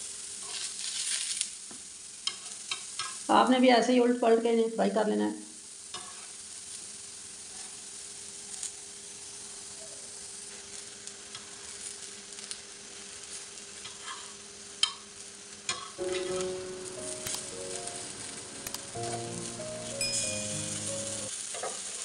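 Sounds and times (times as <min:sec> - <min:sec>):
slices sizzling on griddle: 0:00.0 - 0:03.5, 0:05.5 - 0:22.0.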